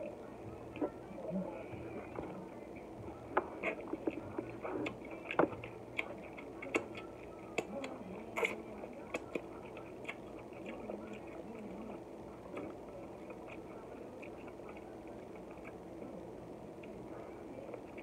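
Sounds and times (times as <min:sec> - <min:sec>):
person eating with wet smacks: 0:00.0 - 0:16.1.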